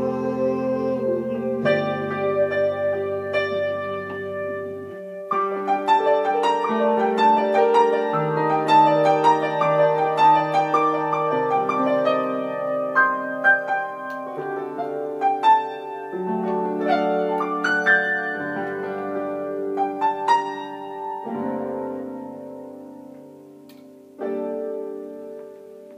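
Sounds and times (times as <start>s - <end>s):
electronic keyboard playing piano chords: 0.0s - 25.9s.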